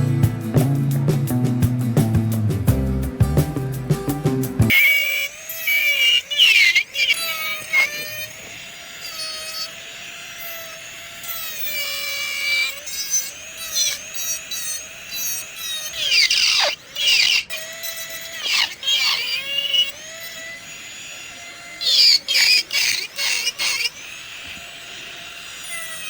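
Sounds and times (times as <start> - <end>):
grinding squeals: 4.7 - 26.0
rotary handpiece whining: 4.7 - 26.0.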